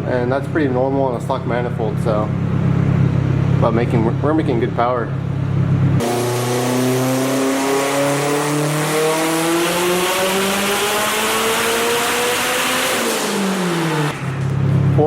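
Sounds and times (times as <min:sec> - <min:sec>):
car engine full-throttle pull: 0:00.0 - 0:15.0.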